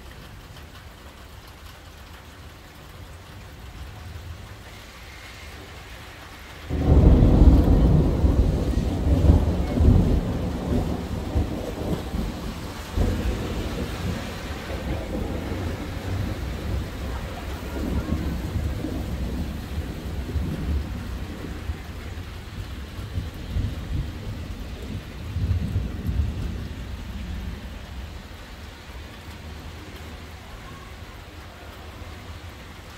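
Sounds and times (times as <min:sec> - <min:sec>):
steady rain: 0:00.0 - 0:32.9
thunder rumbling: 0:05.5 - 0:32.9.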